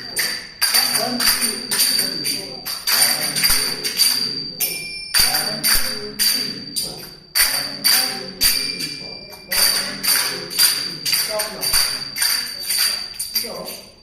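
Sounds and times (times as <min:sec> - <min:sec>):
small hand cymbals striking: 0:00.0 - 0:14.0.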